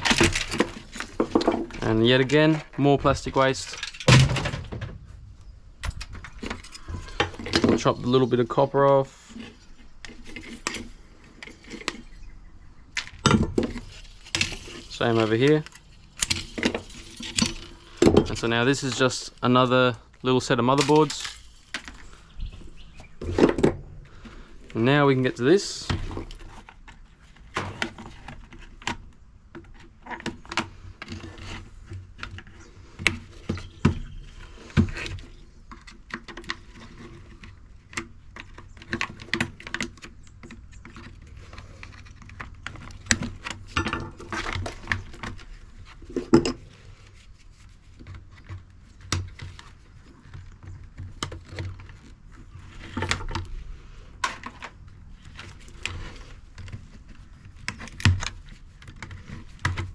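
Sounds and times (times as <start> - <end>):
hand tools and parts clattering: 0.0 - 5.2, 5.8 - 12.2, 12.9 - 59.9.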